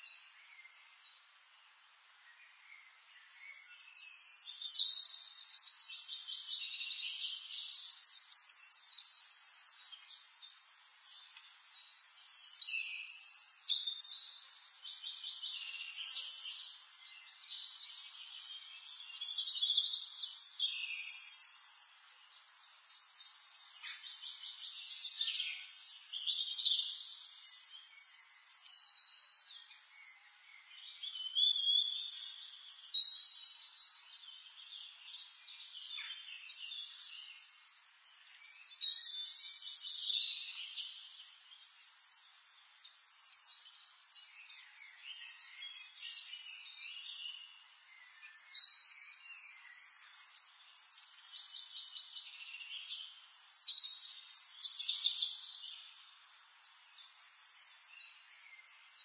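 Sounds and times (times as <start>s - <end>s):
faint steady hiss: 0.0s - 59.0s
songbirds singing: 0.0s - 59.0s.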